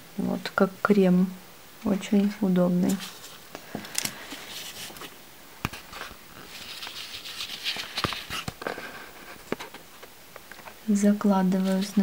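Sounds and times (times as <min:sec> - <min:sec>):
disposable gloves rustling: 0:02.1 - 0:12.0.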